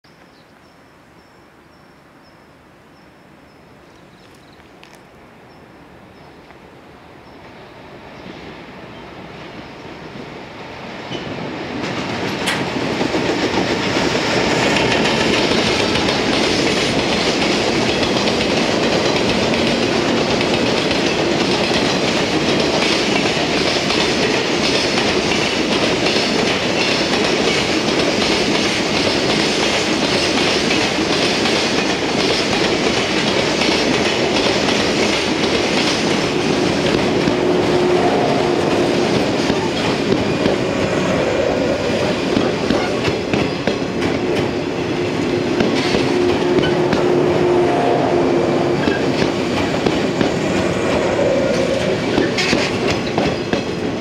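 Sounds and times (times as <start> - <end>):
faint steady hum of train: 0.1 - 54.0
freight train wheels clacking: 10.6 - 54.0.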